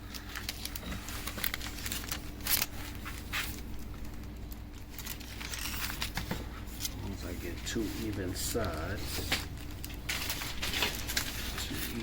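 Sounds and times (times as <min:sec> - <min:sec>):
plastic film crinkling and rustling: 0:00.0 - 0:12.0.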